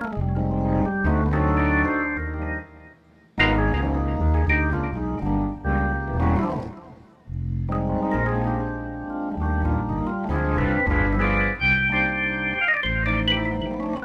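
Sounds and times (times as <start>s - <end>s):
synth accordion chords: 0.4s - 6.4s, 7.8s - 14.0s.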